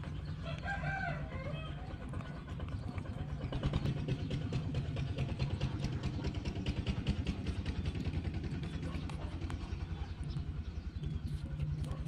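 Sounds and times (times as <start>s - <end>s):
low motor hum: 0.0s - 12.0s
rabbits chewing watermelon: 0.0s - 12.0s.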